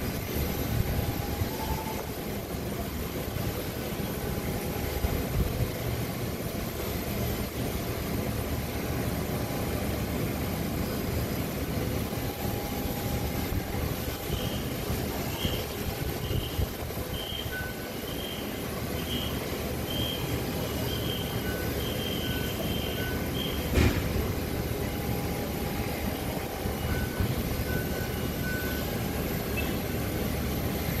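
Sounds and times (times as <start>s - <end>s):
faint steady whine: 0.0s - 31.0s.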